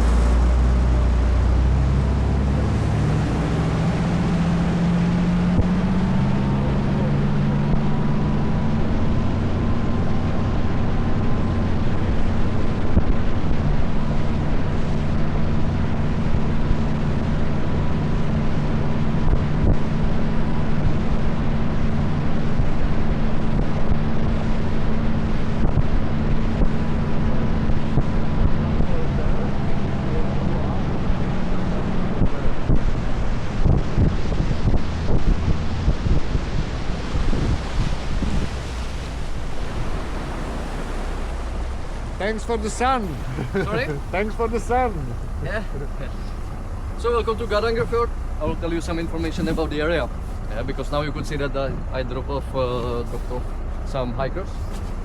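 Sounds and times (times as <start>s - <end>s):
wind on microphone: 0.0s - 51.9s
boat engine running: 0.0s - 55.0s.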